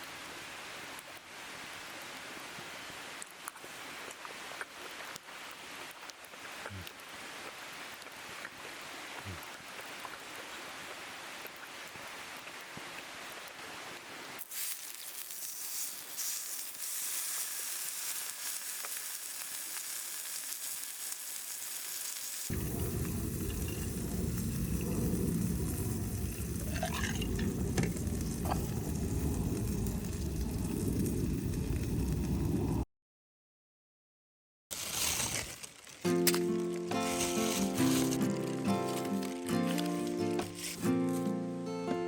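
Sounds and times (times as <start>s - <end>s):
meat sizzling over campfire: 0.7s - 32.8s, 34.7s - 41.7s.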